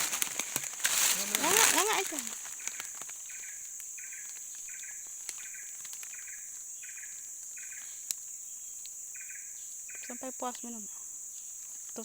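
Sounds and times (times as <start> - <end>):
insect chirp: 0.0 - 12.0
insects droning: 0.0 - 12.0.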